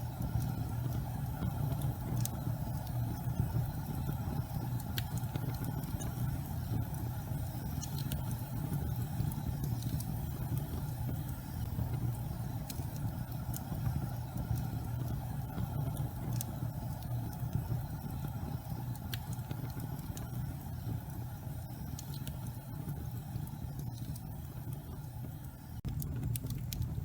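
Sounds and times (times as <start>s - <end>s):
faint sharp crackles: 0.0s - 27.0s
gas fire flame rumble: 0.0s - 27.0s.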